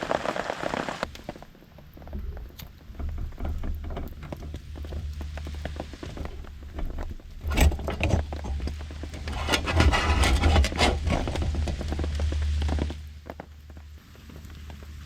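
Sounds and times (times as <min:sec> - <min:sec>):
rain pattering on a tarp: 0:00.0 - 0:15.0
gear rustling and knocking: 0:01.1 - 0:15.0.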